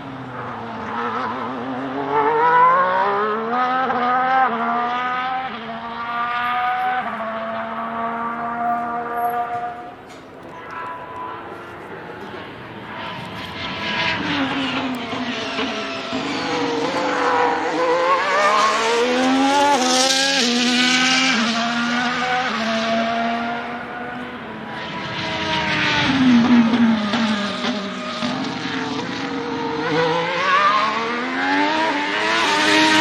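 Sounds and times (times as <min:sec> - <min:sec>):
racing car accelerating: 0:00.0 - 0:33.0.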